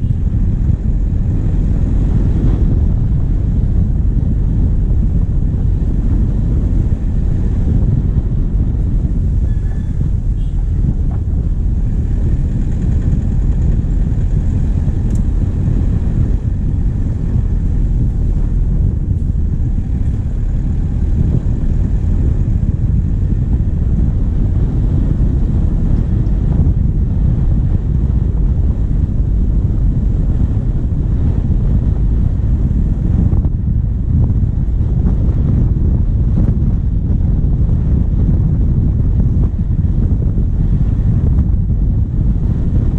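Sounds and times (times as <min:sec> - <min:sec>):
diesel engine rumbling: 0:00.0 - 0:42.9
wind buffeting microphone: 0:00.0 - 0:42.9.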